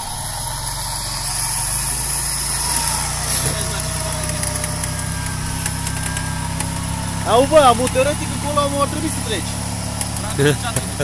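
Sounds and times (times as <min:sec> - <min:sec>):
faint tone sliding down: 0:00.0 - 0:10.0
off-road vehicle engine running: 0:00.0 - 0:11.0.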